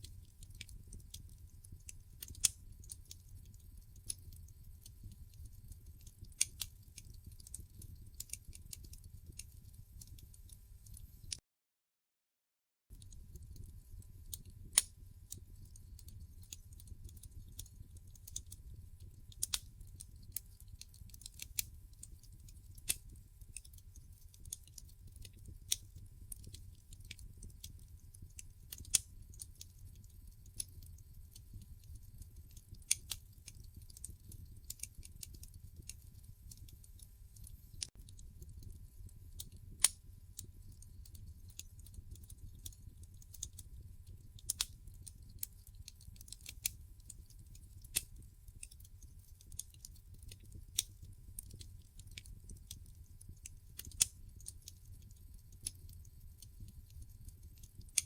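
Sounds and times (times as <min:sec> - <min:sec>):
wood fire crackling: 0:00.0 - 0:11.4, 0:12.9 - 0:58.0.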